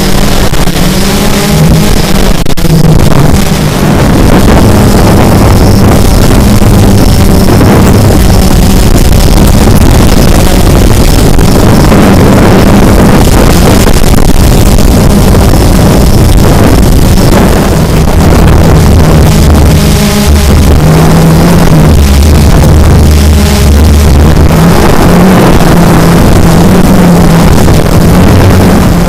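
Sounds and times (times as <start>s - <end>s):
drone propellers whirring: 0.0s - 29.0s
wind rushing over microphone: 0.0s - 29.0s.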